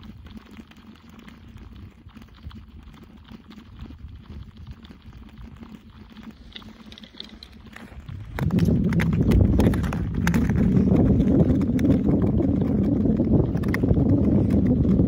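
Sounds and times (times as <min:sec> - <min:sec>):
ice crackling and ticking: 0:00.0 - 0:15.0
low ice rumble: 0:00.0 - 0:15.0.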